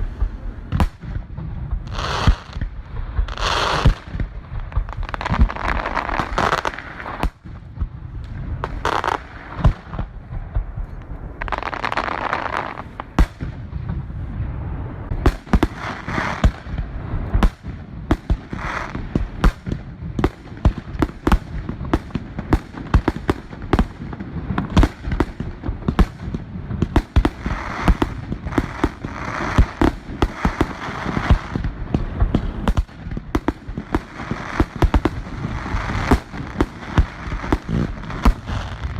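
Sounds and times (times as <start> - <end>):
continuous low rumble: 0.0 - 38.9
fireworks bangs and pops: 0.0 - 38.9.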